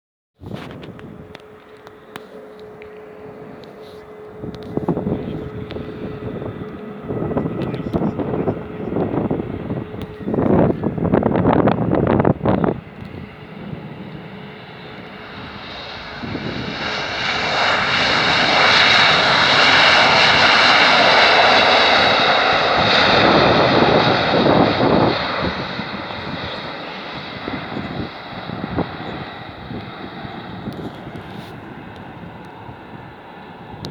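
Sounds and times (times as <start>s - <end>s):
jet engines roaring and whining: 0.4s - 33.9s.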